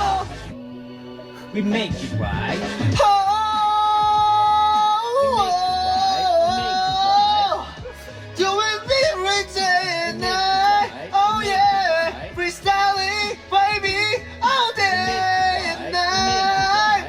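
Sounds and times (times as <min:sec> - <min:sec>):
backing track with low beat: 0:00.0 - 0:17.0
pop vocal singing: 0:00.0 - 0:17.0.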